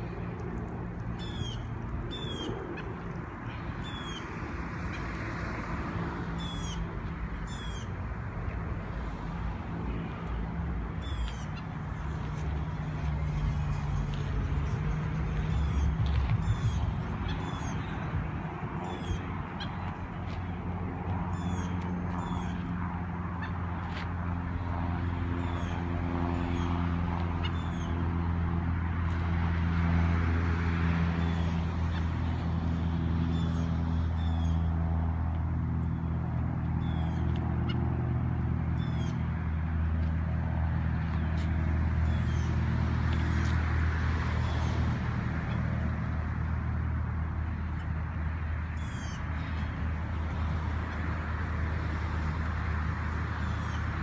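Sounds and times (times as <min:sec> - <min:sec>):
low motor-like hum: 0:00.0 - 0:54.0.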